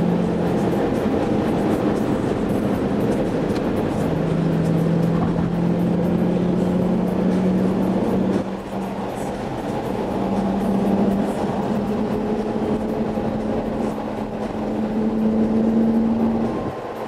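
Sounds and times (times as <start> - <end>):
car engine pulling away: 0.0 - 17.0.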